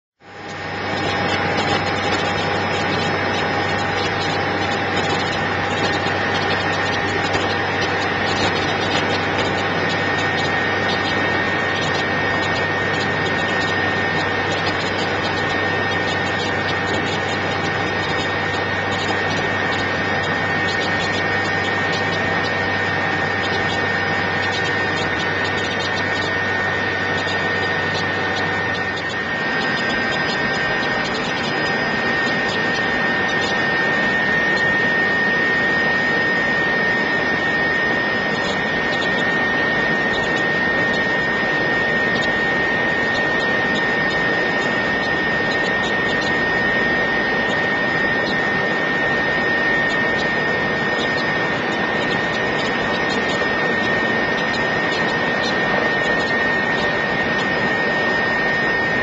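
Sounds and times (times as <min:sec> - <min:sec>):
helicopter engine and rotor: 0:00.2 - 0:59.0.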